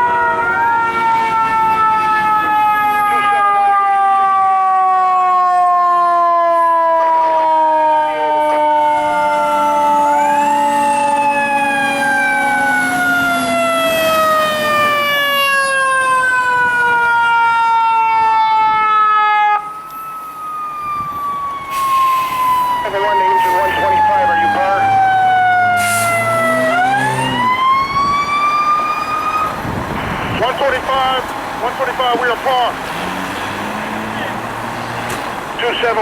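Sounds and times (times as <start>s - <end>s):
fire engine sirens wailing: 0.0s - 36.0s.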